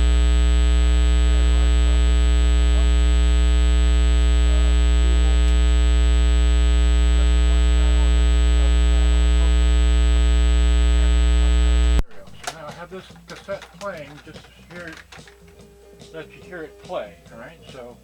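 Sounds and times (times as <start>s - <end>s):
electrical hum and buzz: 0.0s - 16.1s.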